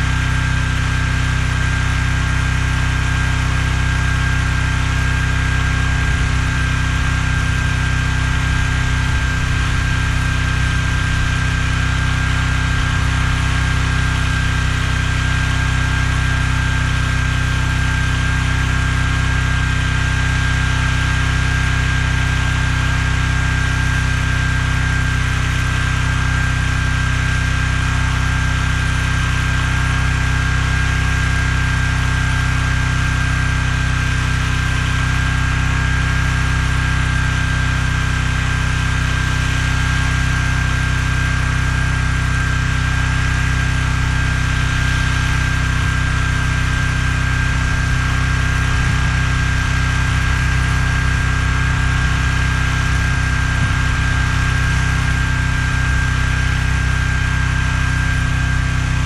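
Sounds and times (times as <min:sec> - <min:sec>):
high whine: 0:00.0 - 0:59.0
small engine running: 0:00.0 - 0:59.0.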